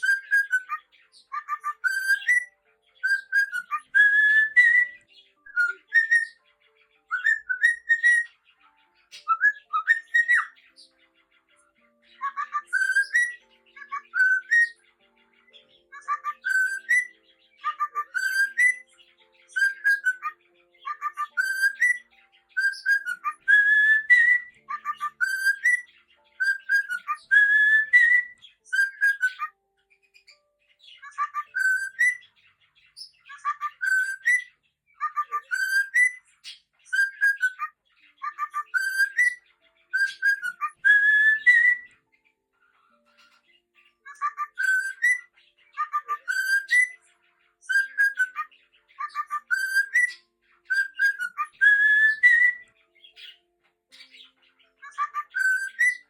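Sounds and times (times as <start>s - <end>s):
cockatiel whistling: 0.0s - 6.4s, 7.1s - 8.3s, 9.1s - 10.9s, 12.2s - 14.8s, 15.5s - 29.6s, 31.0s - 32.3s, 33.0s - 42.0s, 44.0s - 47.0s, 47.6s - 53.4s, 54.8s - 56.0s.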